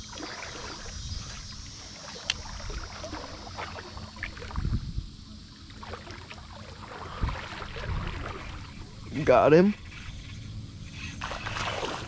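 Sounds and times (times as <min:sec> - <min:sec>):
river water lapping: 0:00.0 - 0:12.0.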